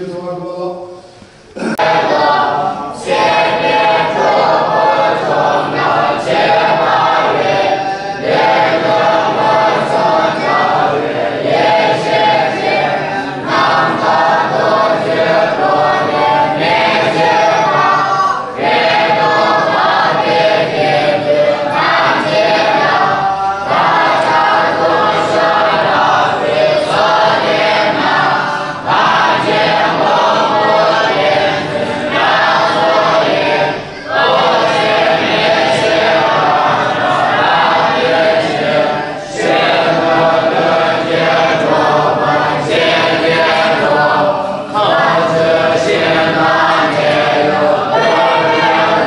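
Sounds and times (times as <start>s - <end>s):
young monks chanting in unison: 0.0s - 49.0s.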